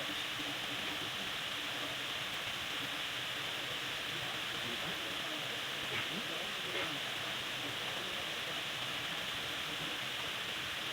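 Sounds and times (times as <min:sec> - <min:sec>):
waterfall: 0:00.0 - 0:10.9.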